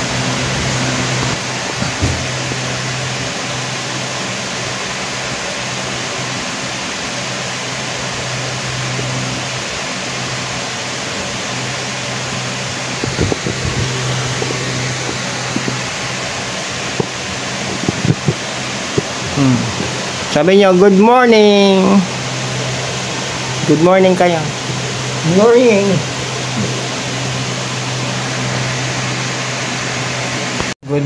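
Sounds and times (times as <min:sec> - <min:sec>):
electric fan running: 0:00.0 - 0:31.0.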